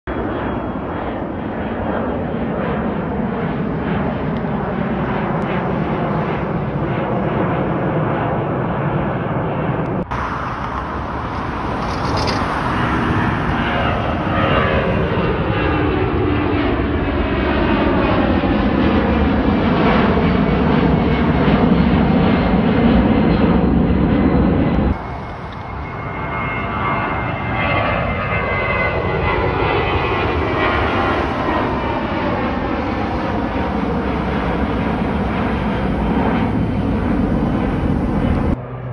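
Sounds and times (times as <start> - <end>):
jet engines roaring: 0.1 - 38.9
whining jet engine tones: 0.1 - 38.9.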